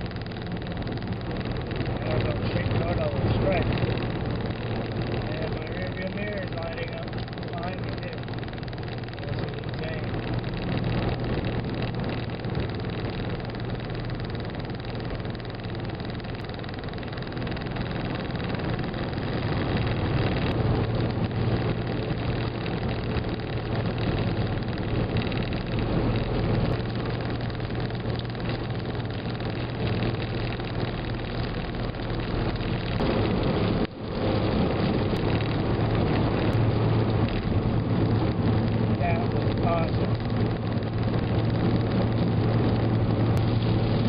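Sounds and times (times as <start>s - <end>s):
car road and engine noise: 0.0s - 44.0s
low drone: 0.0s - 44.0s.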